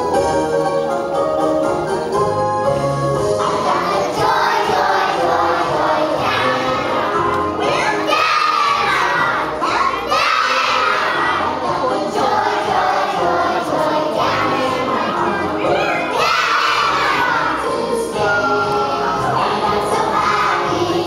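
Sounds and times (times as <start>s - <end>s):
children singing loudly: 3.4s - 21.0s.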